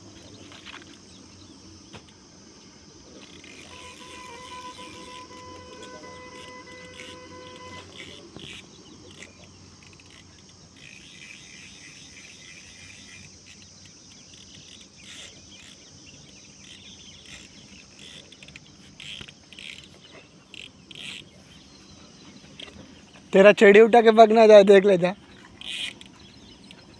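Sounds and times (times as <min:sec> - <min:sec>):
insects chirring: 0:00.0 - 0:26.9
bird-like chirps: 0:03.2 - 0:26.9.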